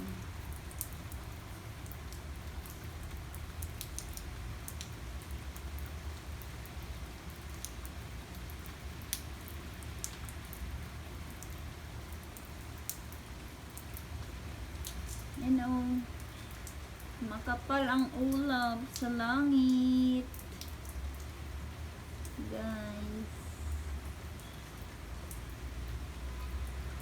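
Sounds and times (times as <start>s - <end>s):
raindrops ticking on surface: 0.0s - 27.0s
steady rain hiss: 0.0s - 27.0s.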